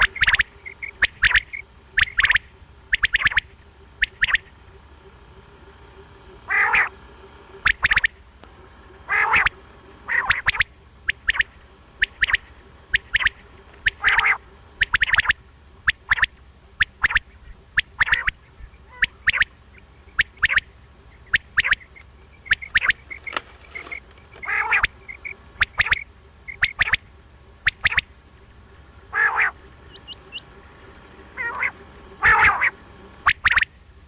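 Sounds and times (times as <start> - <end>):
quail calling: 0.0 - 33.8.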